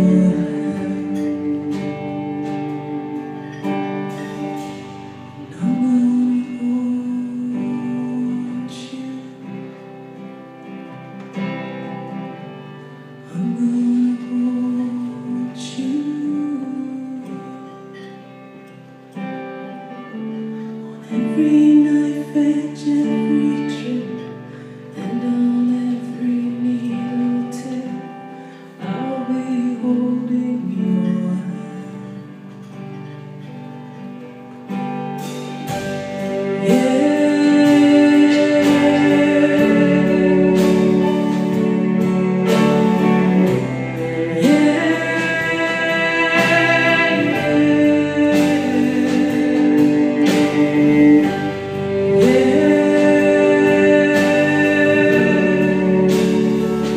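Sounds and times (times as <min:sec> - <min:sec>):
woman singing: 0:00.0 - 0:04.7, 0:05.4 - 0:09.8, 0:13.3 - 0:18.1, 0:21.0 - 0:32.3, 0:36.0 - 0:56.9
live band playing slow song: 0:00.0 - 0:56.9.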